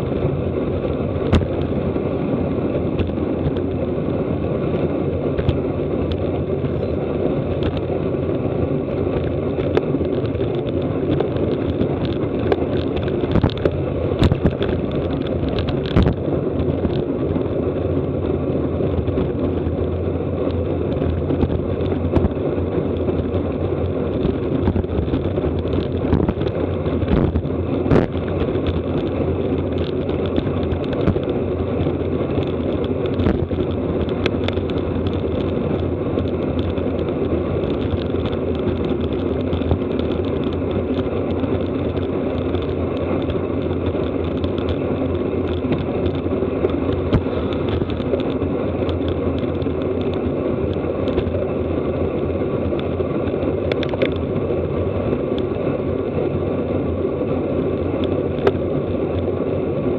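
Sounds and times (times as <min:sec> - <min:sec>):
wind and road noise: 0:00.0 - 0:59.9.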